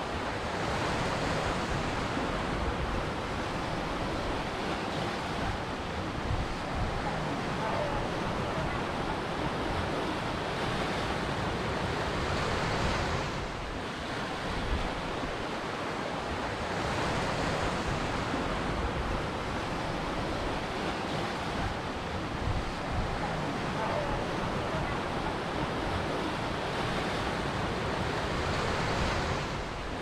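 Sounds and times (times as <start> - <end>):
waves breaking on a beach: 0.0 - 30.0
wind on microphone: 0.0 - 30.0.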